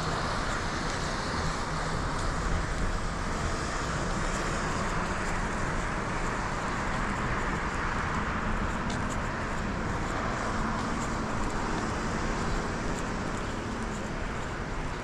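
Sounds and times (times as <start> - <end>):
rush of passing cars: 0.0 - 15.0.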